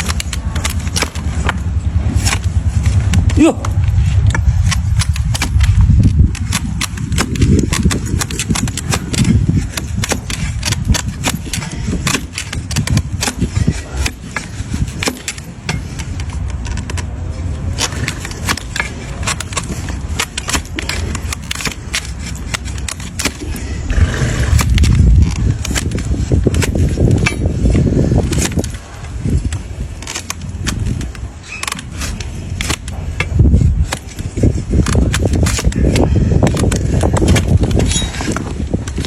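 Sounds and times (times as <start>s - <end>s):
blade cutting hoof horn: 0.0s - 39.0s
low rumble: 0.0s - 39.0s.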